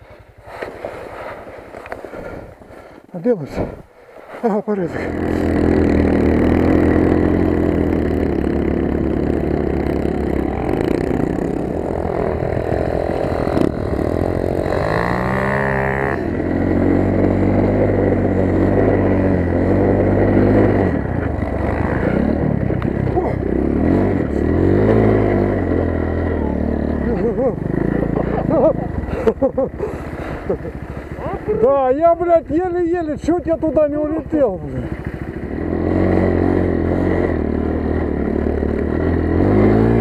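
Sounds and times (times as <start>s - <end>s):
motorcycle engine running: 0.0s - 2.8s, 4.8s - 40.0s
dirt bike passing: 0.0s - 40.0s.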